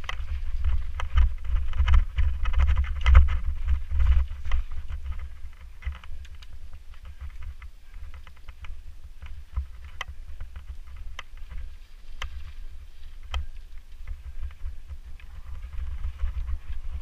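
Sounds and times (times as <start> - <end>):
bike clicks and rattles: 0.0 - 17.0
bike tyres on gravel: 0.0 - 17.0
wind on microphone: 0.0 - 17.0.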